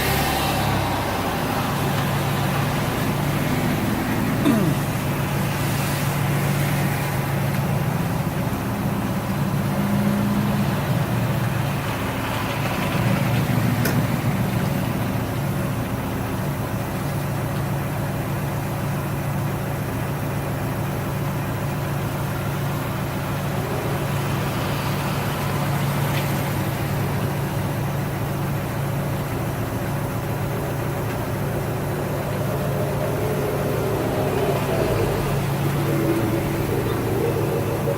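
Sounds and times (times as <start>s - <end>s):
car engine running at low revs: 0.0s - 37.9s.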